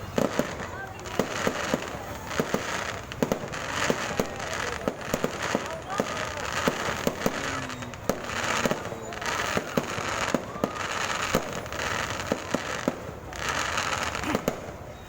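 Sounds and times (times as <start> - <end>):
crackling hiss of fireworks: 0.0 - 15.0
firecrackers banging: 0.0 - 15.0.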